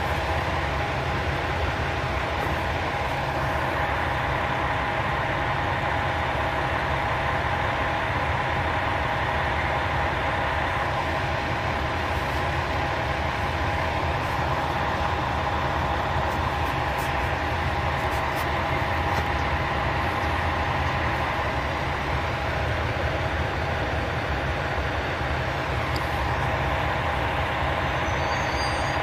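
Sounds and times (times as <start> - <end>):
constant hum: 0.0 - 29.0
diesel railcar engine idling: 0.0 - 29.0.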